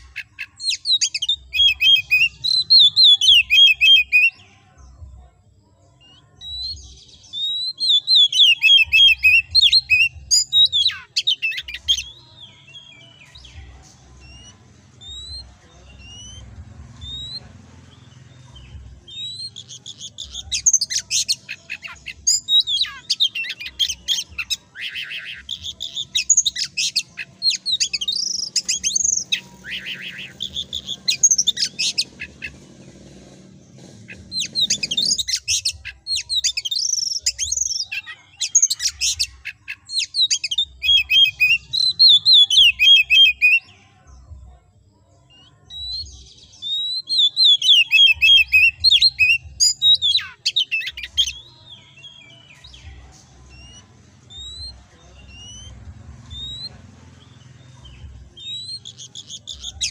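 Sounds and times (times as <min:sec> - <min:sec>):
bird singing whistles and trills: 0:00.0 - 0:04.4, 0:06.0 - 0:13.6, 0:14.2 - 0:17.5, 0:18.1 - 0:32.6, 0:34.1 - 0:43.7, 0:45.3 - 0:56.8, 0:57.8 - 0:59.9.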